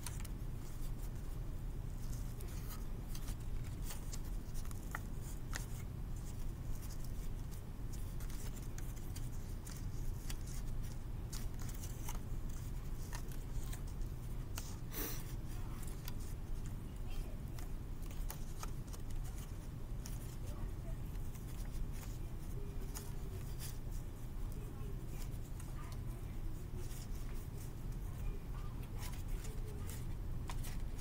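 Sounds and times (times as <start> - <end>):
steady low hum: 0.0 - 31.0
paper crackling and rustling: 2.0 - 16.8, 17.4 - 31.0.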